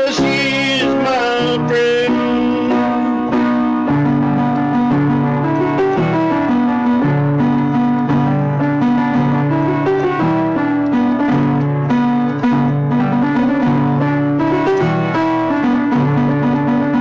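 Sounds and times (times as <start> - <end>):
guitar: 0.0 - 17.0
keyboard chords: 0.0 - 17.0.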